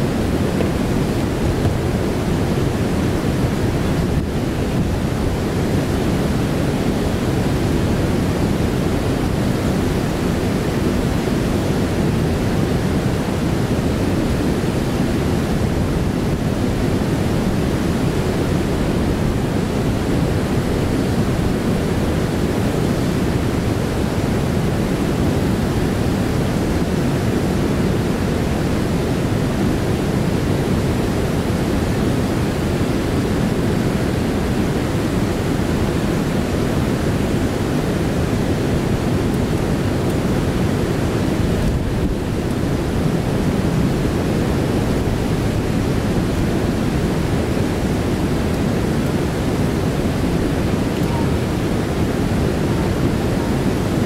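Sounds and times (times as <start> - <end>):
river water roaring over rapids: 0.0 - 54.0.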